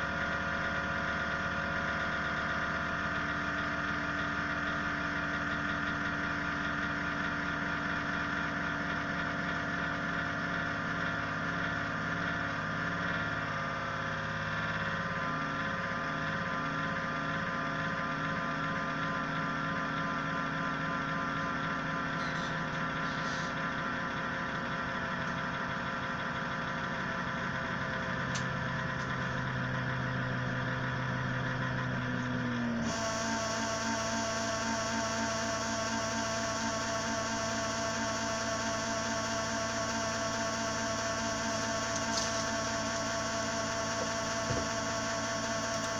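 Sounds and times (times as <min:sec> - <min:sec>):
power supply humming and whining: 0:00.0 - 0:45.9.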